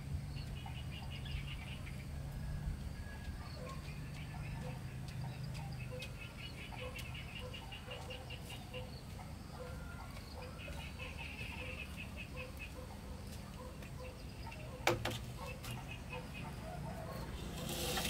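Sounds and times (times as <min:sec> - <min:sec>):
birds chirping: 0:00.1 - 0:17.4.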